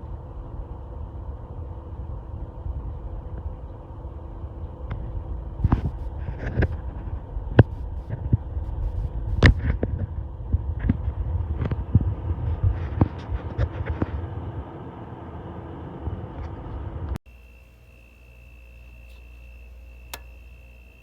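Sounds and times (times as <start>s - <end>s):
fan heater running: 0.0s - 21.0s.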